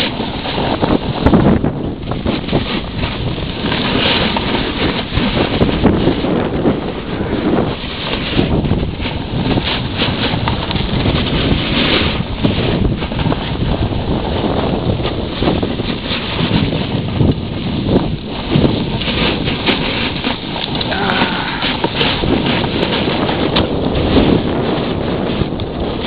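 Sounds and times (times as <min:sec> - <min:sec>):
snowboard sliding over snow: 0:00.0 - 0:26.0
wind buffeting the microphone: 0:00.0 - 0:26.0.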